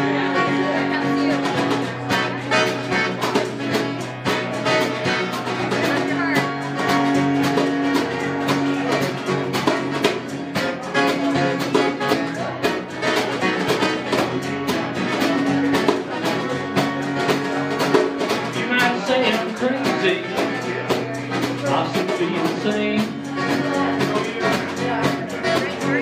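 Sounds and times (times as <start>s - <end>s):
acoustic guitar strumming: 0.0s - 26.0s
djembe and percussion beat: 1.4s - 26.0s.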